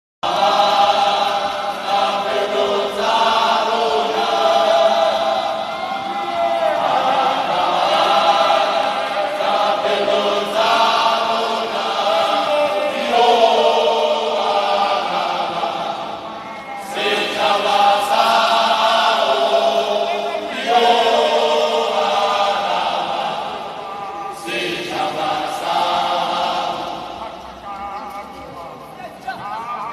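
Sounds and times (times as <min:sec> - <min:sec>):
group chanting in harmony: 0:00.2 - 0:29.9.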